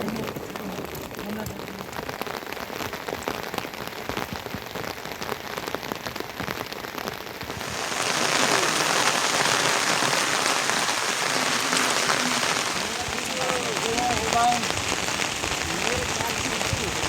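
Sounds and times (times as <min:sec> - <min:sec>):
heavy rain downpour: 0:00.0 - 0:17.0
raindrops pattering: 0:00.0 - 0:17.0.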